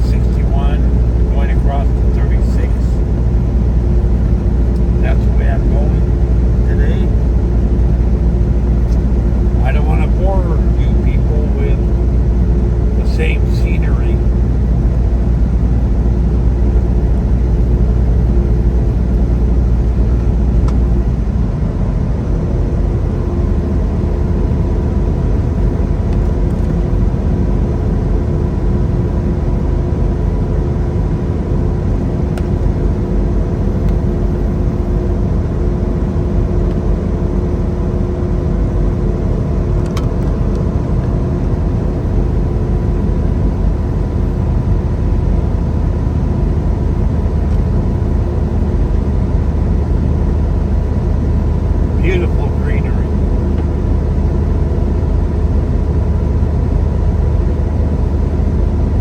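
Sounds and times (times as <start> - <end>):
faint steady whine: 0.0 - 59.0
truck engine drone in cab: 0.0 - 59.0.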